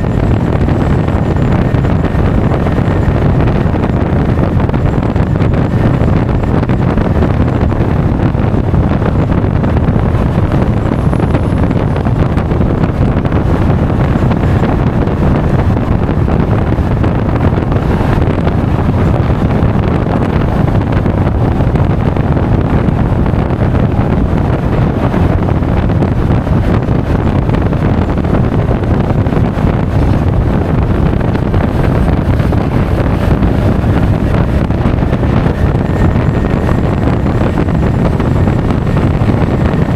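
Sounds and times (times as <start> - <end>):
scooter engine: 0.0 - 39.9
wind buffeting microphone: 0.0 - 39.9.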